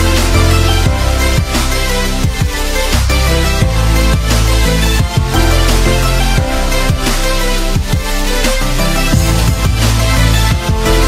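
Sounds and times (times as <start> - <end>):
electronic music with bass beat: 0.0 - 11.0.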